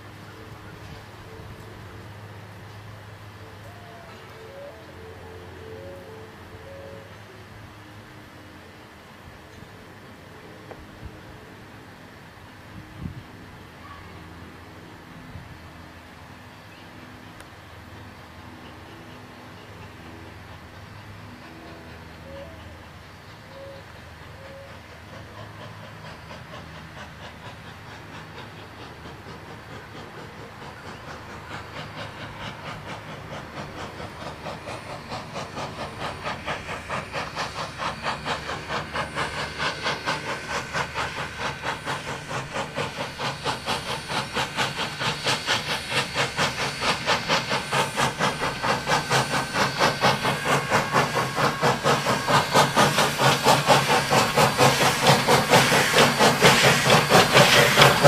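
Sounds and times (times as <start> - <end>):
steam hiss: 0.0 - 58.0
steam locomotive chuffing: 0.0 - 58.0.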